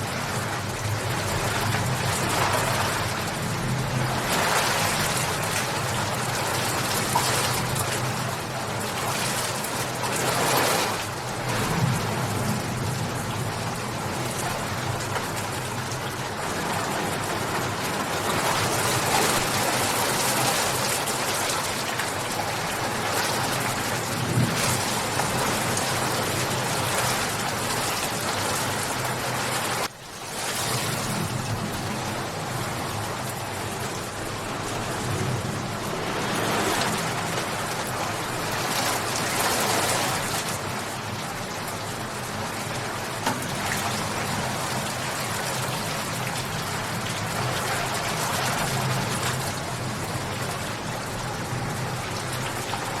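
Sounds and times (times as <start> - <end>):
dense rain falling: 0.0 - 53.0.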